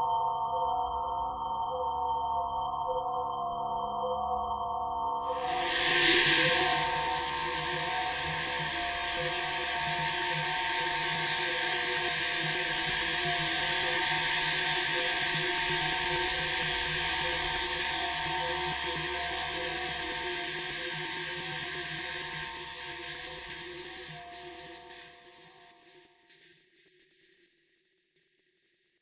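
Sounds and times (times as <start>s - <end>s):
electronic drone with high hiss: 0.0s - 25.6s.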